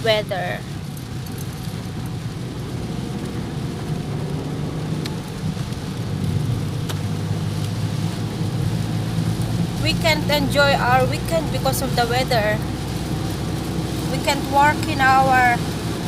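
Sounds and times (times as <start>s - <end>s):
engine and tyres rumbling: 0.0s - 16.0s
rain hissing: 0.0s - 16.0s.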